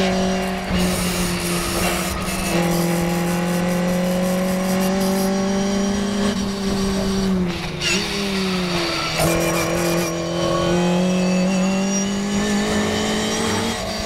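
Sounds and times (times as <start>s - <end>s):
race car engine: 0.0s - 14.0s.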